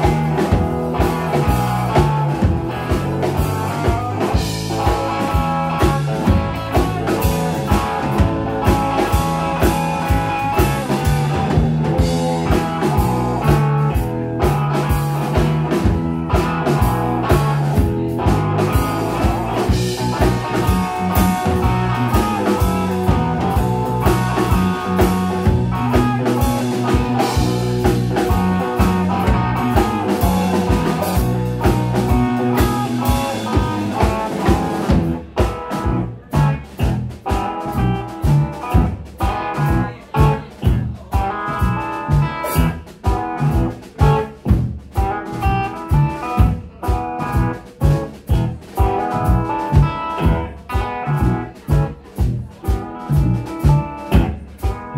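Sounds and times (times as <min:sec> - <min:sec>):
drum kit: 0:00.0 - 0:54.9
electric guitars: 0:00.0 - 0:54.9.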